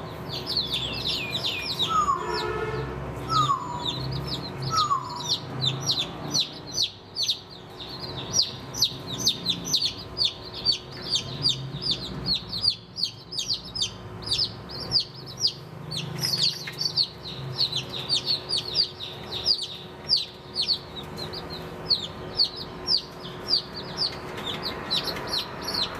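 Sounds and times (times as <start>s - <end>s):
baby chicks peeping: 0.0s - 25.9s.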